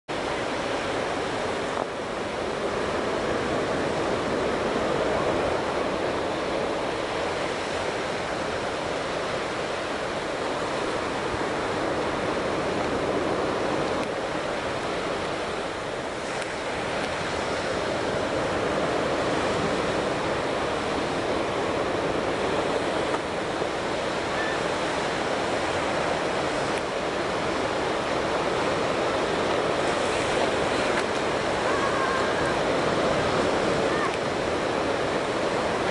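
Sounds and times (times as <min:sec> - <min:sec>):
wind: 0:00.0 - 0:35.9
surf breaking on sand: 0:00.1 - 0:35.9.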